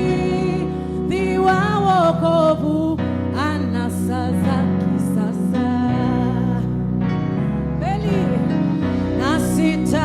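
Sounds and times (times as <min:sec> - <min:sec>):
bass: 0:00.0 - 0:10.0
keyboard chords: 0:00.0 - 0:10.0.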